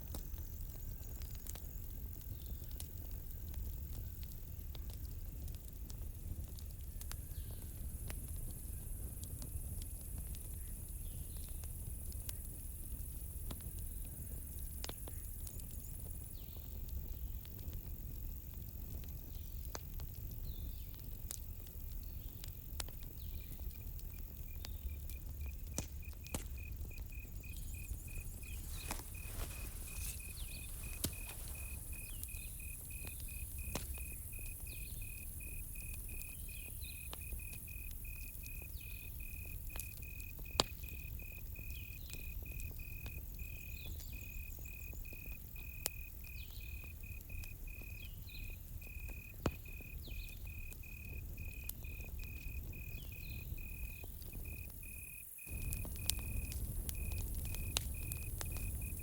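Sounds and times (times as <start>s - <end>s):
campfire crackling and popping: 0.0s - 59.0s
cricket chirping: 7.0s - 59.0s.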